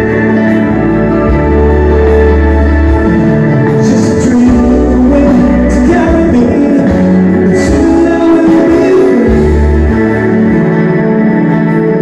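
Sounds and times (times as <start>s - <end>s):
electric keyboard ballad: 0.0s - 12.0s.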